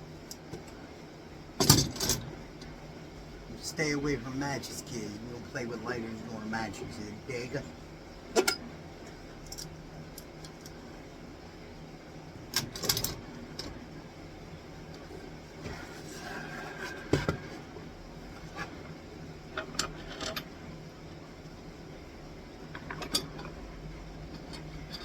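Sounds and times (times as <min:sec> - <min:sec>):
low workshop hum: 0:00.0 - 0:25.0.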